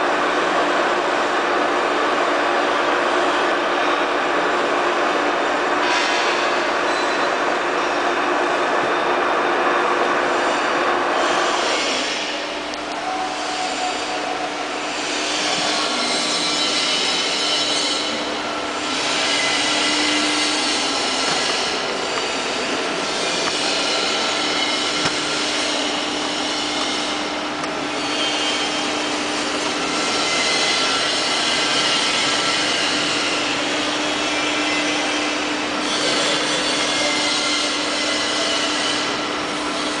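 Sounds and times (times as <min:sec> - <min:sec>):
lathe running: 0:06.6 - 0:40.0.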